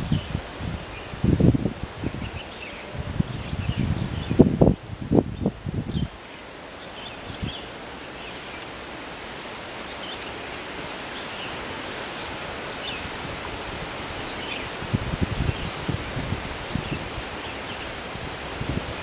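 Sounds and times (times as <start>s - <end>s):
strong wind rushing through foliage: 0.0s - 19.0s
wind gusts buffeting the microphone: 0.0s - 19.0s.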